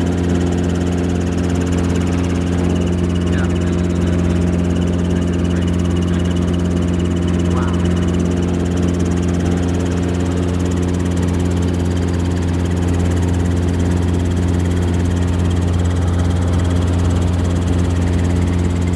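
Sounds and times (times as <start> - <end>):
helicopter engine and rotor drone: 0.0 - 18.9.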